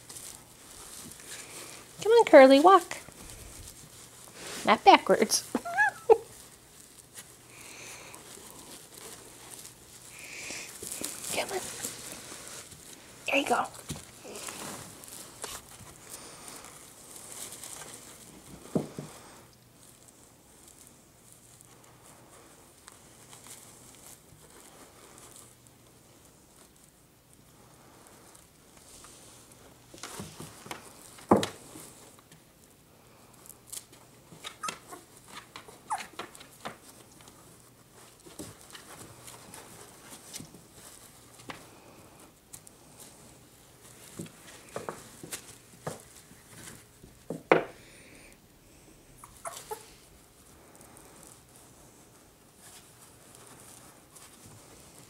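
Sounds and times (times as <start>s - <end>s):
cloth rustling and crinkling: 0.0s - 55.0s.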